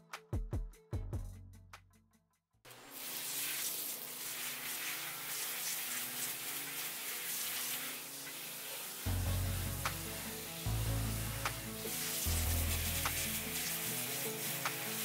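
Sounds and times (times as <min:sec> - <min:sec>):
background music: 0:00.0 - 0:02.1, 0:02.8 - 0:15.0
hose nozzle spraying water: 0:02.7 - 0:15.0.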